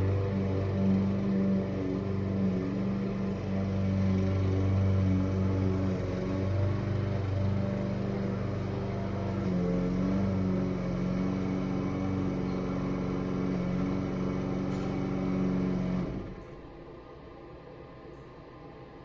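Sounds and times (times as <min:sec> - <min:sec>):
small gasoline engine running: 0:00.0 - 0:16.5.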